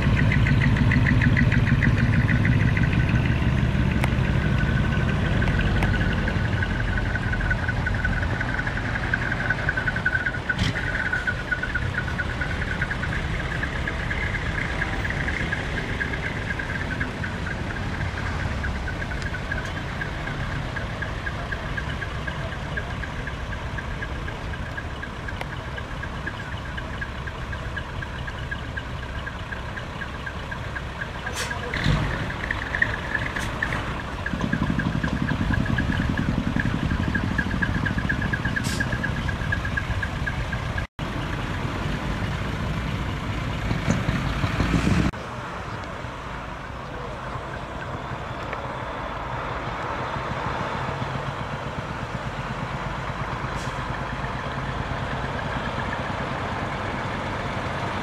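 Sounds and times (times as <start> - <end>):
diesel trucks rumbling: 0.0 - 58.0.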